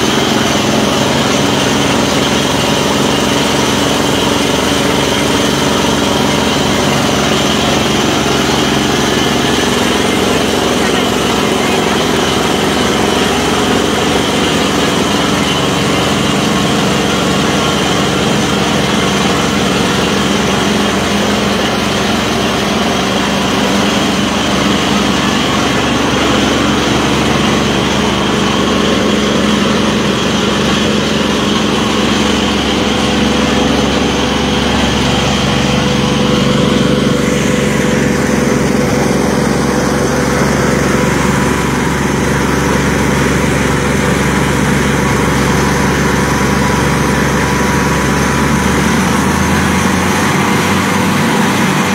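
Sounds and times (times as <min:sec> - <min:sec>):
drilling rig engine droning: 0:00.0 - 0:51.9.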